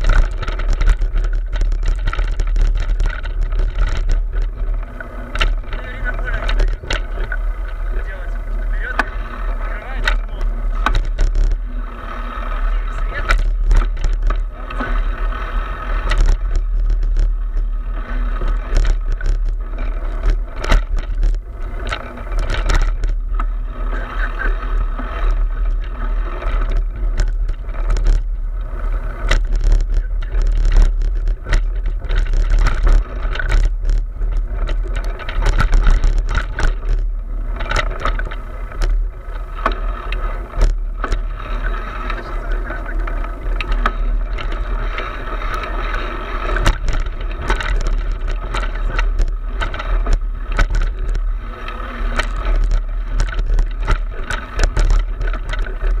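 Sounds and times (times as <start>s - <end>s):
low rumble: 0.0s - 56.0s.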